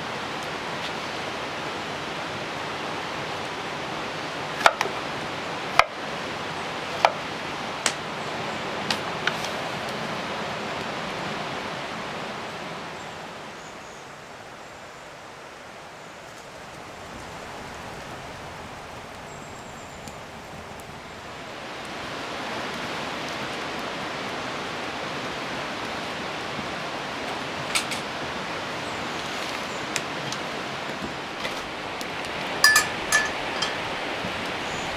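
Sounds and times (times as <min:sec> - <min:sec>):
rain falling in forest: 0:00.0 - 0:34.9.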